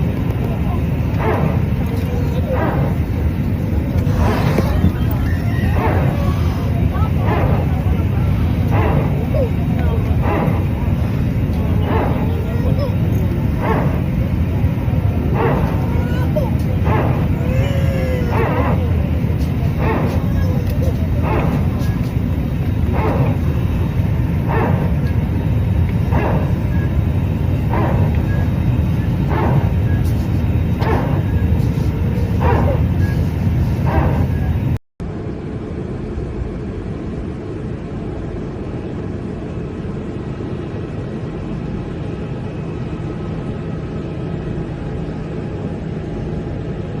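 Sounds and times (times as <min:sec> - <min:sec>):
airliner engine rumble: 0:00.0 - 0:47.0.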